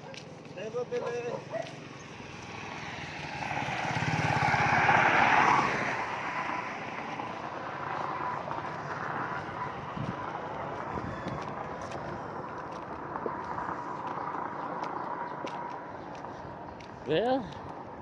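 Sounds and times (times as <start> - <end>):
vehicle passing by: 0.6 - 18.0.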